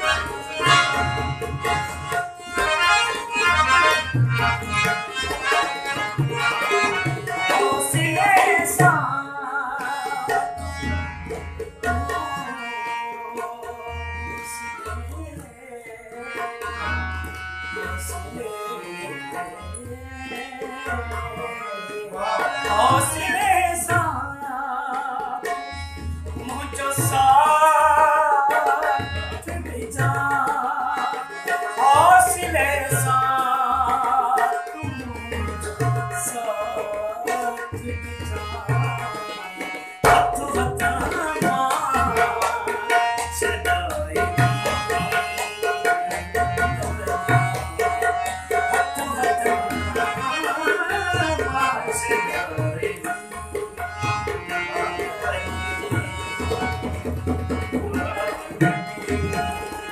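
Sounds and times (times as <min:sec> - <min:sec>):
harmonium chords: 0:00.0 - 0:59.9
man singing: 0:00.0 - 0:59.9
tabla drums: 0:00.0 - 0:59.9.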